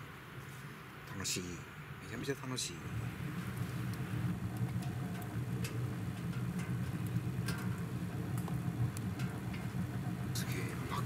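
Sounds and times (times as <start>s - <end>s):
low rumble of stove fire: 0.0s - 11.0s
firewood crackling and popping: 2.0s - 11.0s.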